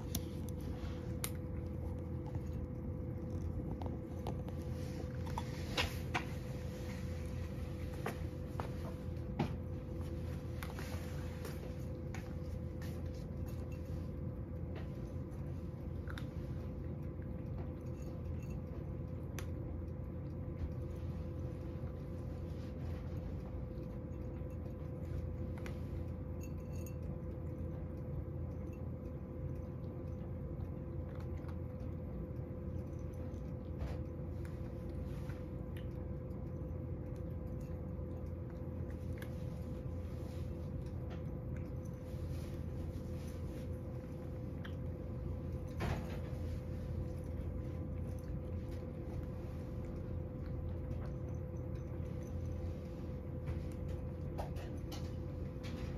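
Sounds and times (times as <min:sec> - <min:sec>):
cat crunching dry kibble: 0:00.0 - 0:55.9
steady low hum: 0:00.0 - 0:55.9.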